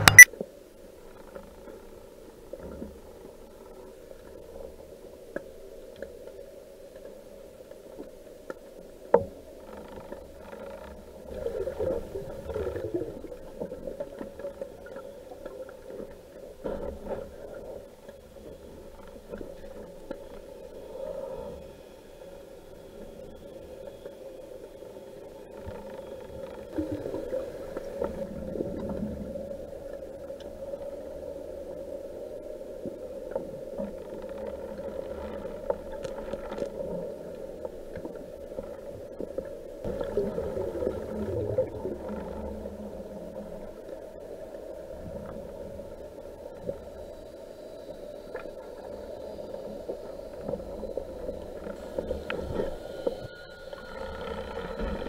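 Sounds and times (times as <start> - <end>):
muffled underwater water rush: 0.0 - 55.0.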